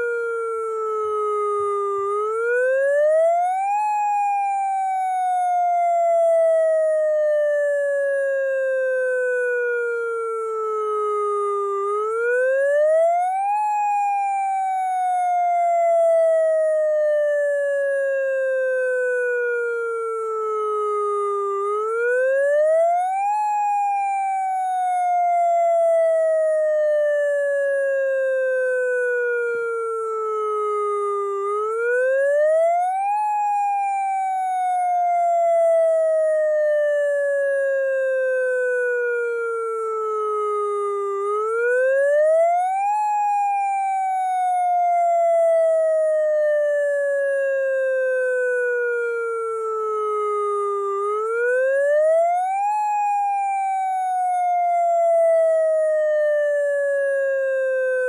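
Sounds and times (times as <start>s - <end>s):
electronic siren wailing: 0.0s - 58.0s.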